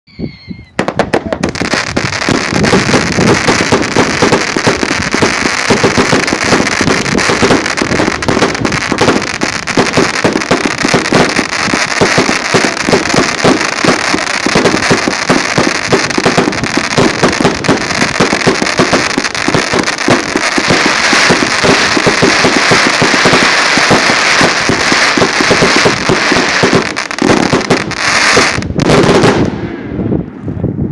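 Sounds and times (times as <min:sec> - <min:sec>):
firework crackling: 0:00.8 - 0:30.2.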